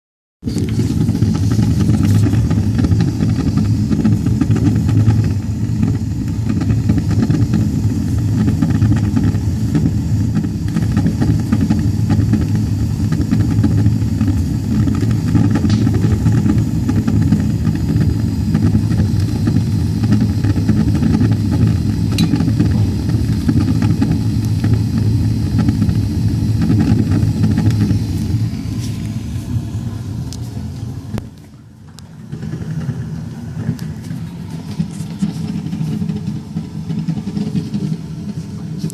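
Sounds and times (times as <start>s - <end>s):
gas burner rumbling: 0.4s - 38.9s.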